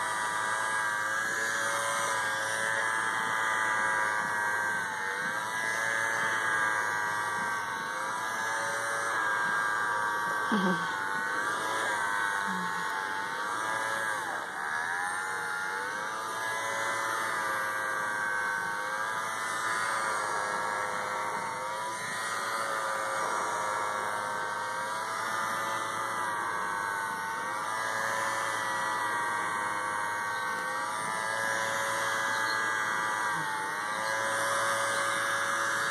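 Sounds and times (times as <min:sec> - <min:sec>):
small vacuum motor whining: 0:00.0 - 0:35.9.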